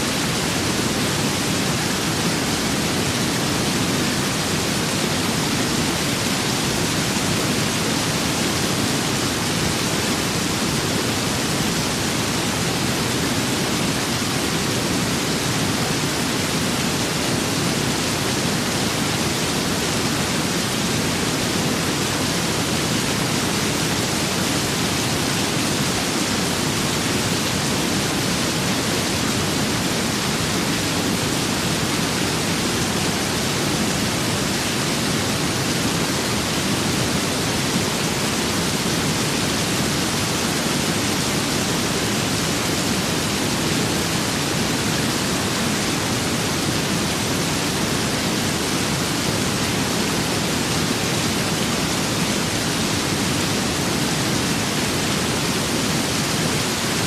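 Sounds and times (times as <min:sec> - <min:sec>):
rain and wind hiss: 0:00.0 - 0:57.0.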